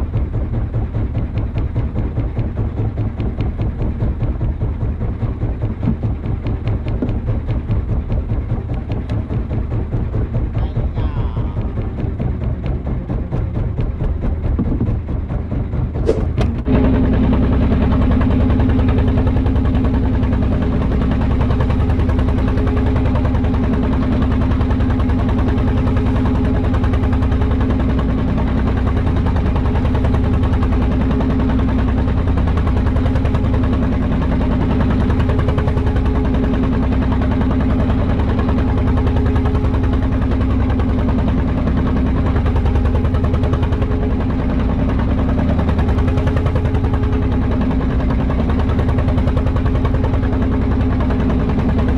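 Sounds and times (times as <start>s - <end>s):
boat engine chugging: 0.0s - 51.9s.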